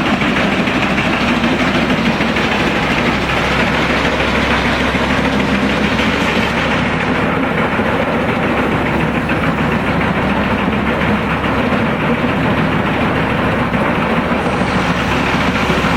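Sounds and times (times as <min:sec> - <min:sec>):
wood chipper running: 0:00.0 - 0:15.9.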